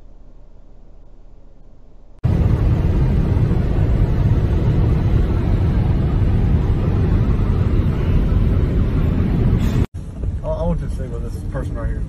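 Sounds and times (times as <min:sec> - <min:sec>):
road and wind noise in car: 0:00.0 - 0:12.0.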